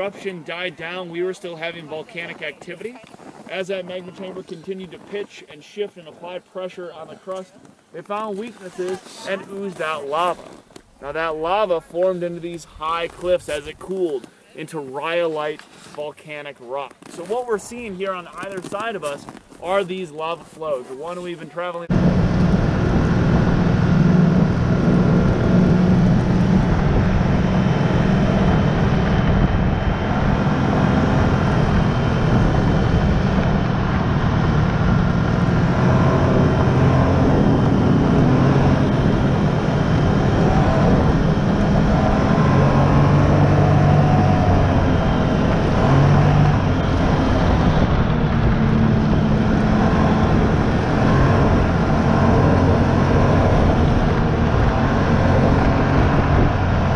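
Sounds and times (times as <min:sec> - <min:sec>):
snowmobile engine running: 0:03.5 - 0:15.3, 0:17.1 - 0:56.9.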